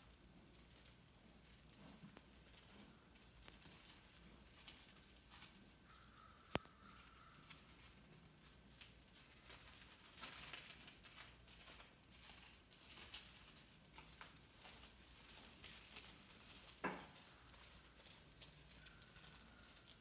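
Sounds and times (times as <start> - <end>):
deer stepping on gravel: 0.0 - 20.0.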